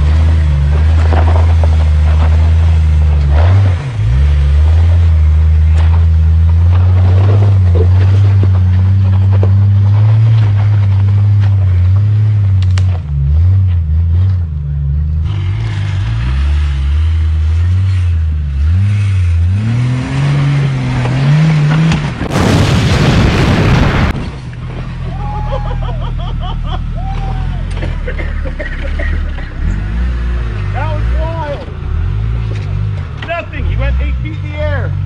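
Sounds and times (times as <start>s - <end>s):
engine revving: 0.0s - 25.4s, 26.3s - 35.0s.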